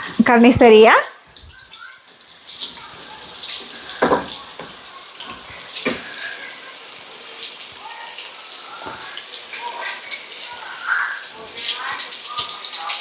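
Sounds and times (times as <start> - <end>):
chicken sizzling in a frying pan: 0.0 - 13.0.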